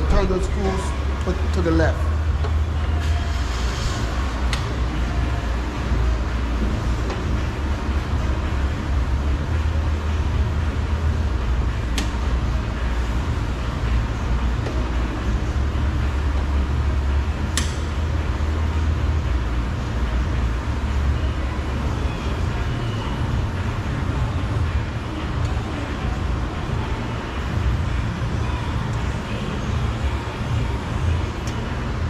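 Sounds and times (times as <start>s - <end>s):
low background rumble: 0.0s - 32.0s.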